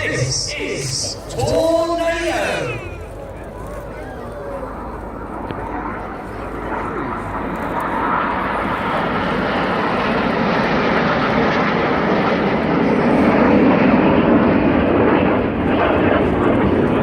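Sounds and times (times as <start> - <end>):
jet aircraft flying past: 0.0 - 17.0.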